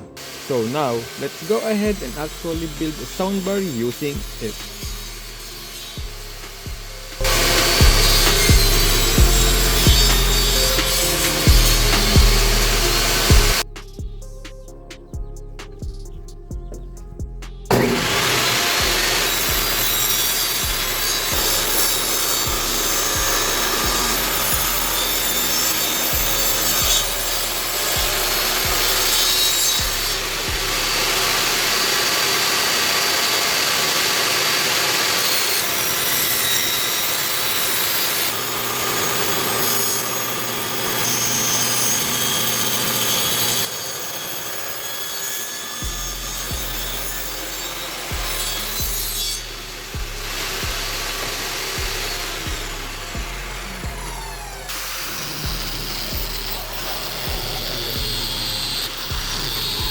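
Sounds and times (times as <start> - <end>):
saw cutting wooden board: 0.0 - 14.0, 17.6 - 59.9.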